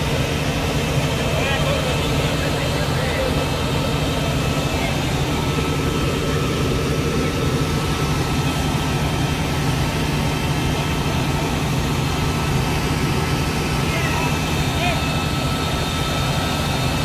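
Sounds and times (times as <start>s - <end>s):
fire engine running: 0.0s - 17.0s
water jets hissing from hoses: 0.0s - 17.0s.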